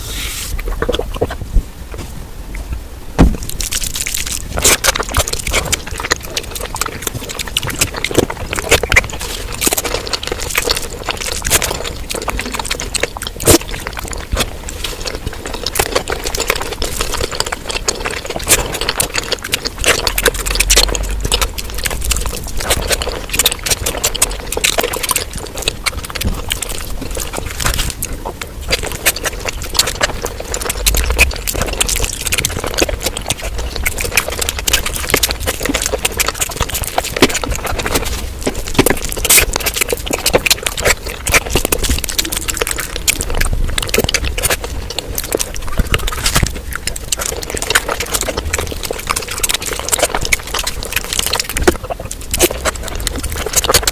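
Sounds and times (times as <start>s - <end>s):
lip-smacking and slurping: 0.0s - 1.4s, 3.4s - 53.9s
rapid wet chewing: 0.0s - 53.9s.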